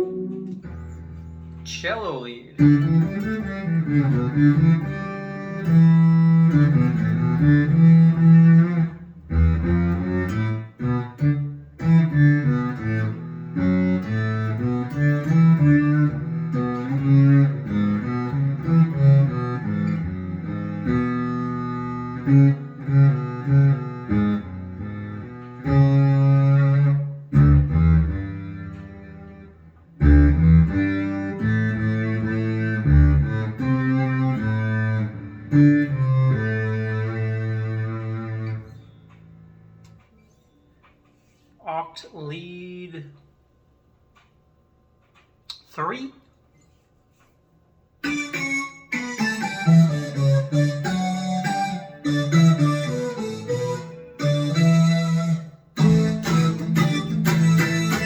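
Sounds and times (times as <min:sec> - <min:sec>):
cello-like synth guitar notes: 0:00.0 - 0:01.6, 0:02.6 - 0:39.8, 0:48.0 - 0:58.0.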